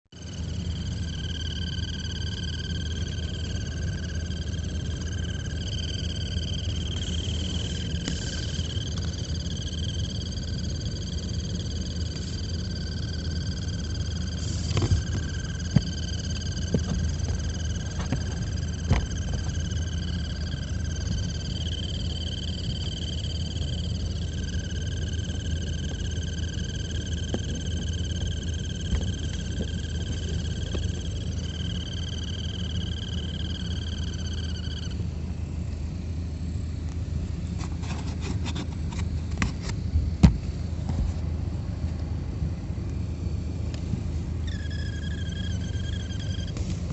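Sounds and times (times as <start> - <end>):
high-pitched whirring chirp: 0.2 - 39.9, 42.9 - 46.9
low fan rush: 0.2 - 46.9.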